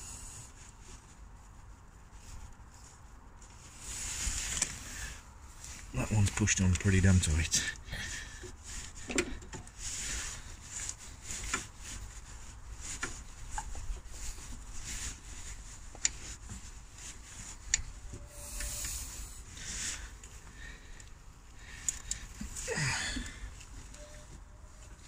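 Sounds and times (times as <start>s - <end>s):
rubber hose rubbing and scraping: 0.0s - 25.0s.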